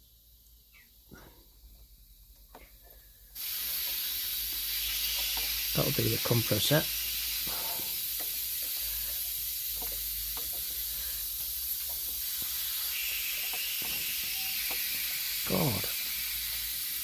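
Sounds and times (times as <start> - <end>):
air compressor hissing and humming: 3.3 - 17.0.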